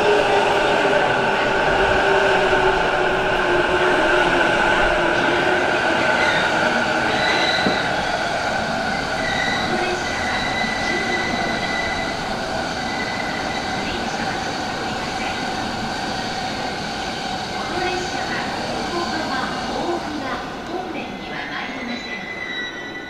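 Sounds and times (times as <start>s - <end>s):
train rumbling: 0.0s - 22.2s.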